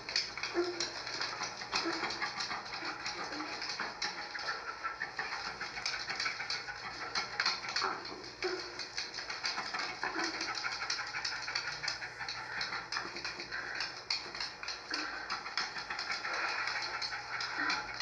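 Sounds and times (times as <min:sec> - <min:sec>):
dog making low sounds: 0:00.0 - 0:18.0.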